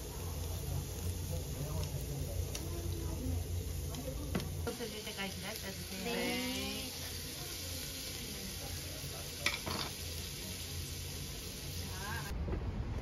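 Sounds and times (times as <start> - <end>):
broth sizzling on hot grill: 0.0 - 12.3.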